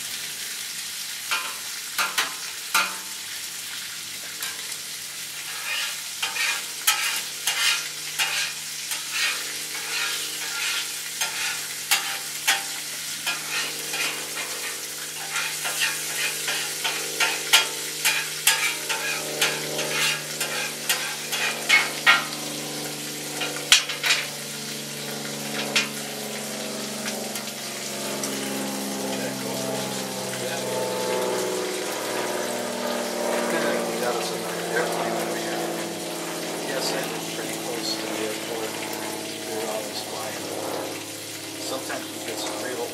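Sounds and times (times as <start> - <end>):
meat sizzling on a grill: 0.0 - 42.9
low engine drone: 6.8 - 42.9.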